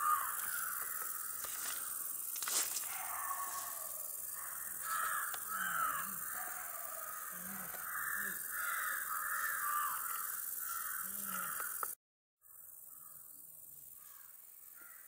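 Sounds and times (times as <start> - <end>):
crows cawing: 0.0 - 2.1, 2.8 - 11.9, 12.9 - 13.2, 14.0 - 15.0.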